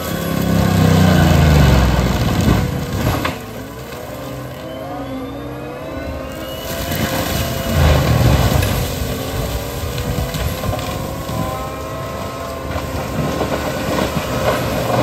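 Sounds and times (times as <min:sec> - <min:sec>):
diesel engine and mulcher whine: 0:00.0 - 0:15.0.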